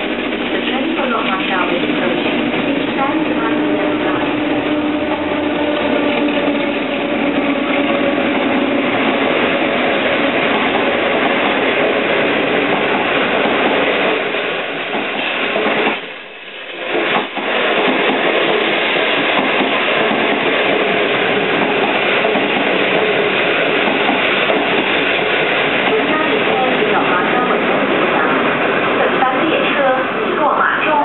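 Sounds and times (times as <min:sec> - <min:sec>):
locomotive engine hum: 0:00.0 - 0:31.0
wheel-on-rail noise: 0:00.0 - 0:31.0.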